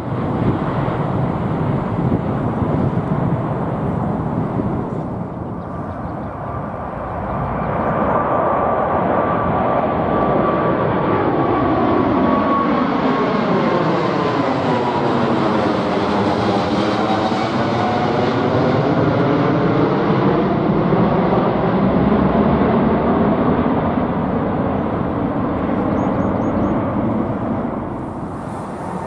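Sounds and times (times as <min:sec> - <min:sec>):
jet airliner passing overhead: 0:00.0 - 0:29.0
jet engine whine dropping in pitch: 0:00.0 - 0:29.0.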